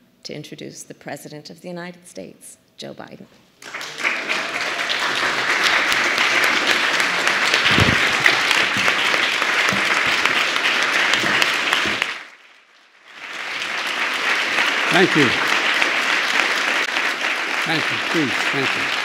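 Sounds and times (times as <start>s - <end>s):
audience applauding: 3.6s - 19.0s.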